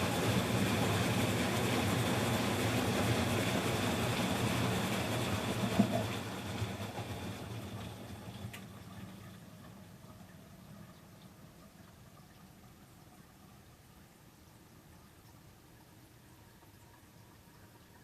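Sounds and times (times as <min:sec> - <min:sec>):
washing machine rumbling: 0:00.0 - 0:18.0.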